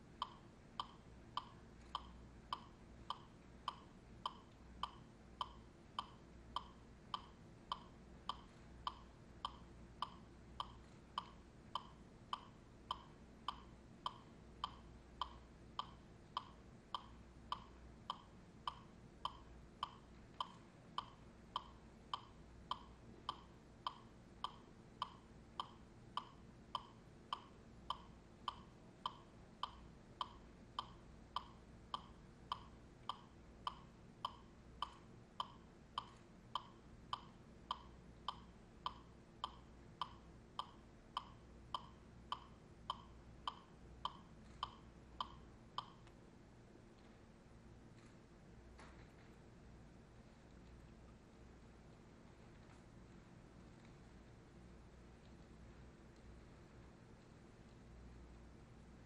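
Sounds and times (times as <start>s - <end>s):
metronome ticking: 0.0s - 48.1s.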